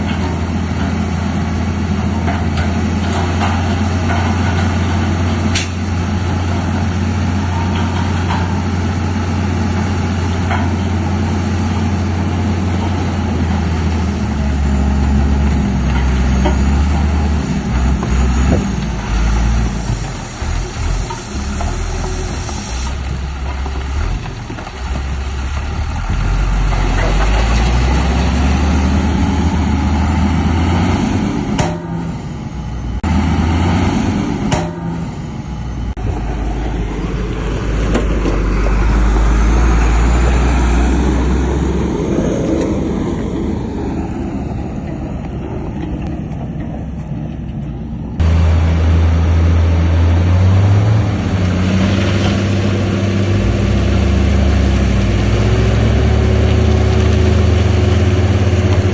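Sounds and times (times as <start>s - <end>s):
heavy diesel machinery working: 0.0s - 58.9s.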